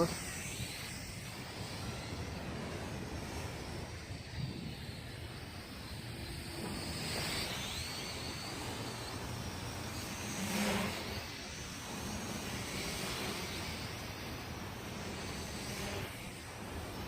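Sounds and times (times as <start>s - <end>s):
drone propellers whining: 0.0s - 17.0s
wind rumble on microphone: 0.0s - 17.0s.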